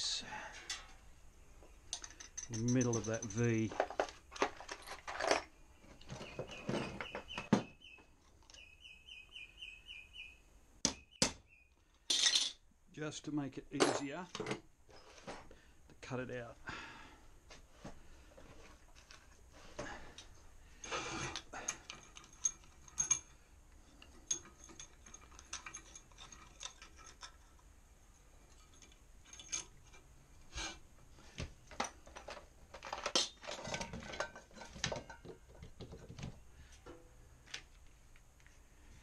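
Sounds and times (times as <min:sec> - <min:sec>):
hand tools and metal clanking: 0:00.0 - 0:08.8, 0:10.8 - 0:12.6, 0:13.5 - 0:16.5, 0:17.5 - 0:37.8.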